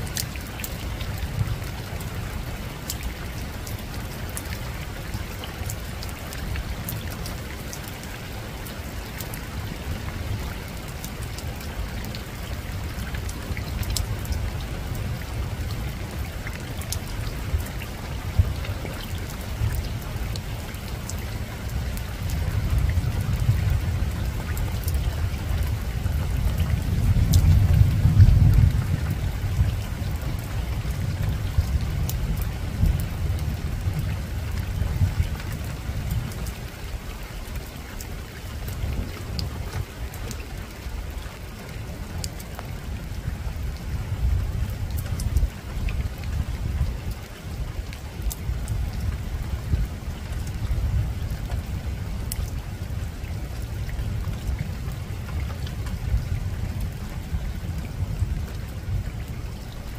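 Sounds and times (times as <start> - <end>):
rain falling on a rooftop: 0.0 - 59.9.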